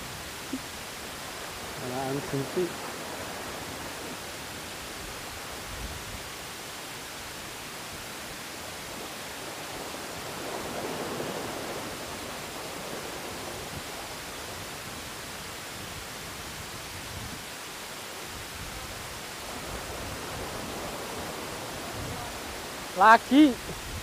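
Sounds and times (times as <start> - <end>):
surf washing against concrete: 0.0 - 24.0.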